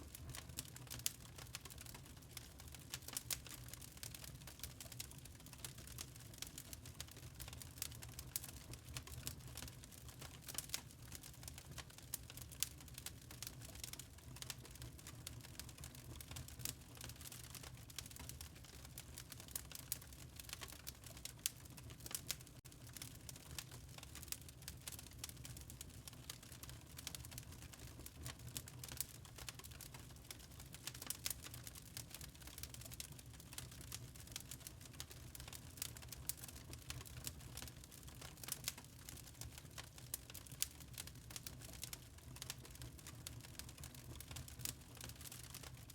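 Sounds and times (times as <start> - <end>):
log fire crackling: 0.0 - 45.9.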